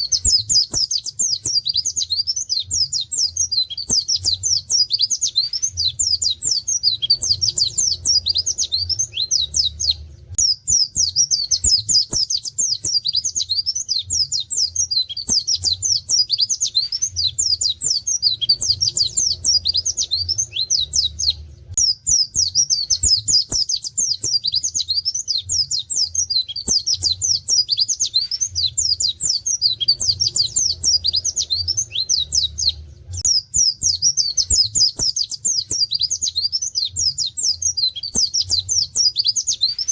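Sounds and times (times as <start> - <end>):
white-eye bird singing: 0.0 - 39.9.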